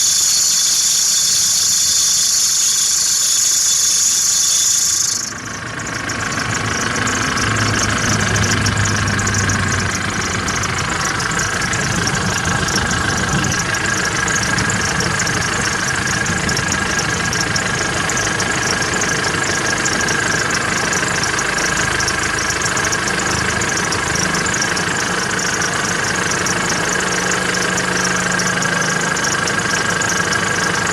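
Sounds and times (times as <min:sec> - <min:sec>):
steady high whistle: 0:00.0 - 0:30.8
diesel engine idling: 0:00.0 - 0:30.9.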